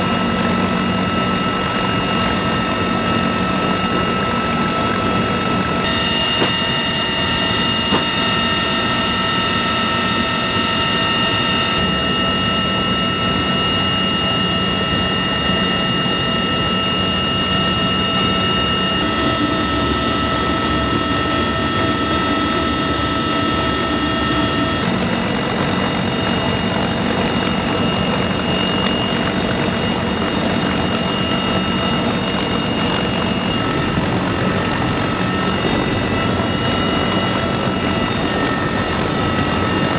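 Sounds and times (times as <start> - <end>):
helicopter rotors and engines rumbling: 0.0 - 39.9
high transmission whine: 0.0 - 39.9.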